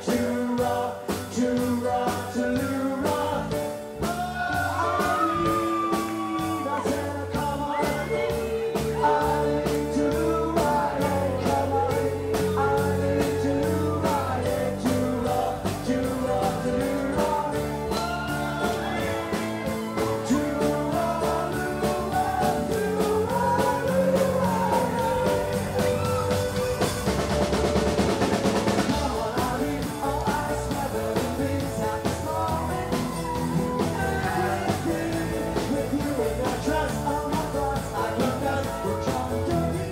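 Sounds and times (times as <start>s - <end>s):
person singing: 0.0s - 27.5s, 28.2s - 39.9s
drum kit beat: 0.0s - 39.9s
rock band playing: 0.0s - 39.9s.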